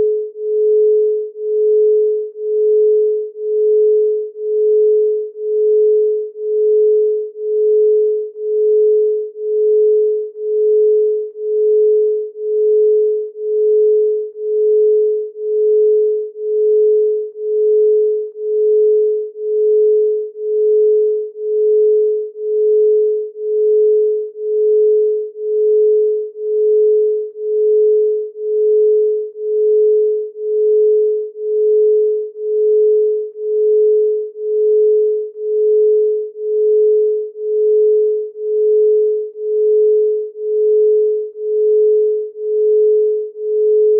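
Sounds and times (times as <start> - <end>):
pulsing electronic sine tone: 0.0 - 43.9.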